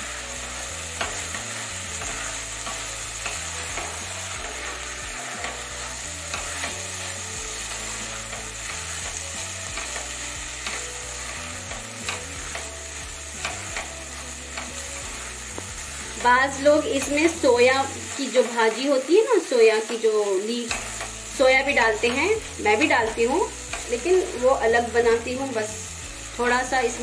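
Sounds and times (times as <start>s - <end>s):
lentils sizzling in a pan: 0.0s - 27.0s
spatula scraping and tapping pan: 0.1s - 19.0s, 20.7s - 24.4s.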